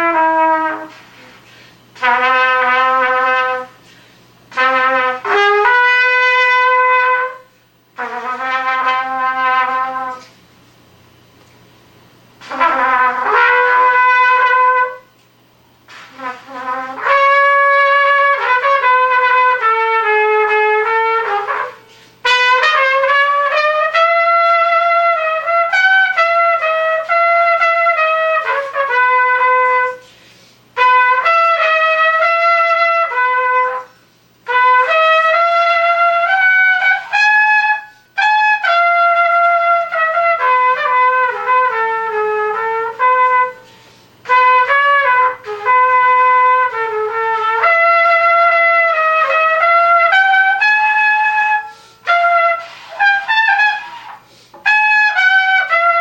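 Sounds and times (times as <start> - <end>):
solo trumpet melody: 0.0 - 10.4, 12.4 - 15.2, 15.8 - 56.0.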